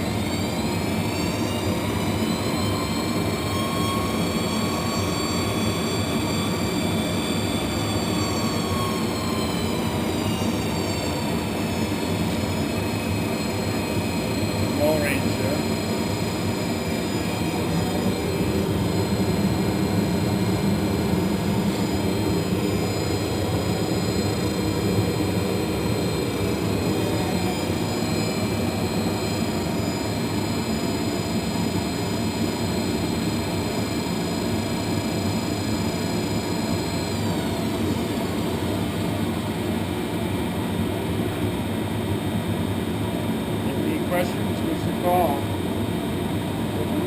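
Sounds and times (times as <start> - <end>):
lathe running: 0.0 - 38.7
high-pitched machine whine: 0.0 - 47.0.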